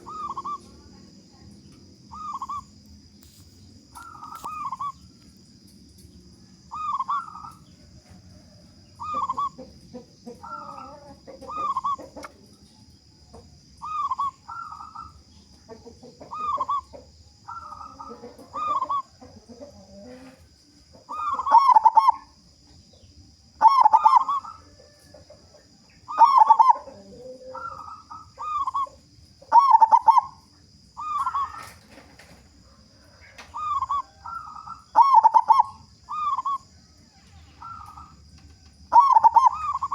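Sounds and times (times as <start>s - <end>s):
dove cooing: 0.0s - 1.5s, 2.1s - 2.7s, 3.8s - 5.1s, 6.7s - 12.4s, 13.8s - 15.3s, 15.9s - 22.4s, 23.6s - 39.9s.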